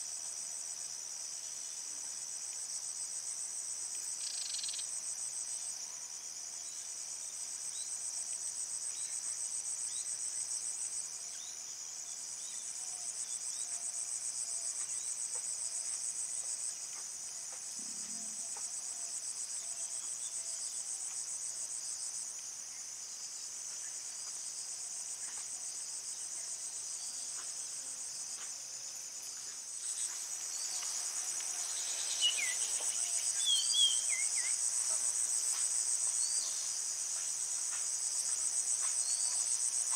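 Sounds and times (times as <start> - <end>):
crickets trilling: 0.3 - 5.5, 7.7 - 39.9.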